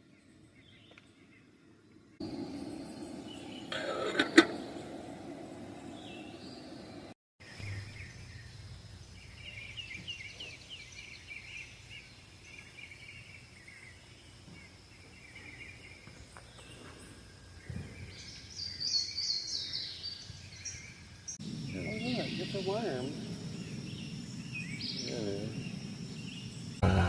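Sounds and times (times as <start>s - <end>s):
birds chirping and singing: 0.0s - 27.0s
high bird calls: 0.1s - 27.0s.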